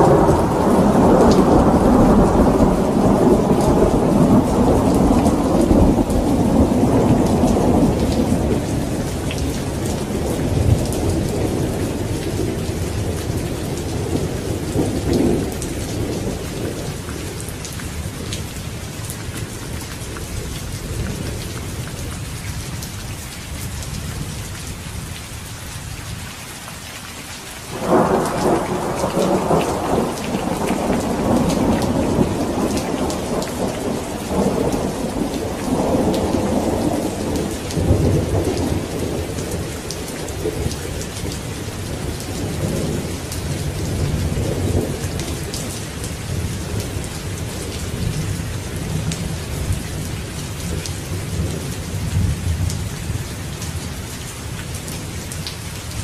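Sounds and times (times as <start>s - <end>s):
thunder rumbling: 0.0s - 21.8s, 27.7s - 53.2s
heavy rain: 0.0s - 56.0s.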